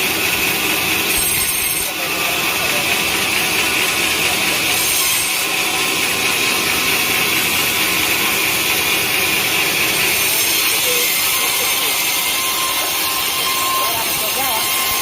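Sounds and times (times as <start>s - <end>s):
sawmill saw running: 0.0s - 15.0s.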